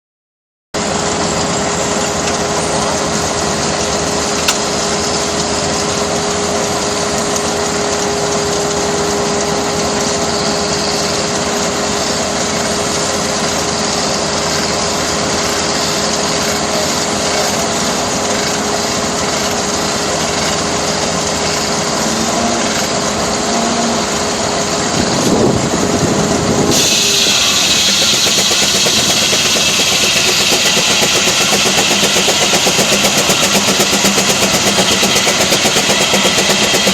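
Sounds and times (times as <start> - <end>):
sawmill whirring: 0.8 - 36.9.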